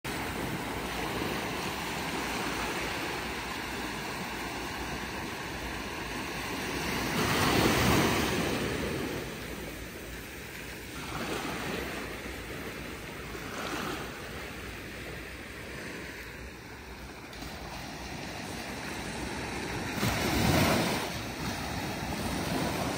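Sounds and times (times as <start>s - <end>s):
small waves washing on sand: 0.1s - 22.9s.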